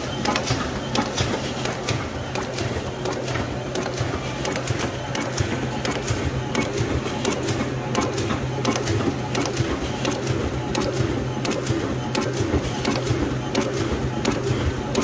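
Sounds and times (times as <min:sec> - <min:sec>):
printing machine hum: 0:00.0 - 0:15.0.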